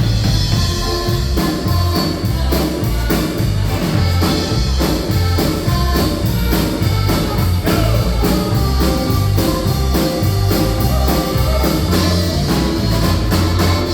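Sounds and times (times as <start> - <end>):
bass and drums beat: 0.0 - 13.9
polka band playing: 0.0 - 13.9.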